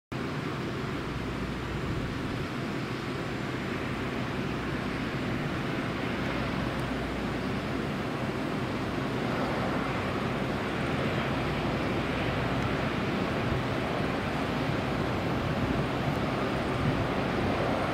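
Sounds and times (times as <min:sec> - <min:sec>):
jet airliner on approach: 0:00.2 - 0:17.9.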